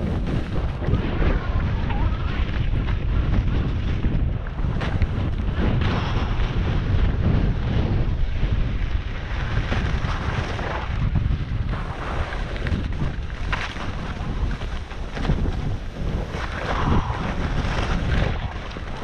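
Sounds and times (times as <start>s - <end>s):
skis scraping over snow: 0.0s - 19.0s
wind buffeting microphone: 0.0s - 19.0s.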